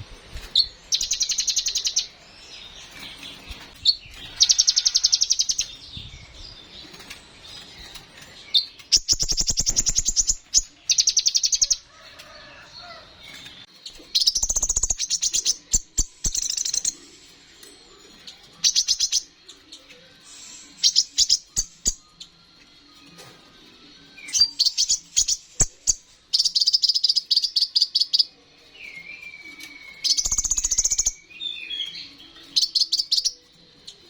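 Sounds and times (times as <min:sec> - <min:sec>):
bird singing buzzy trills: 0:00.0 - 0:11.9, 0:12.8 - 0:34.0.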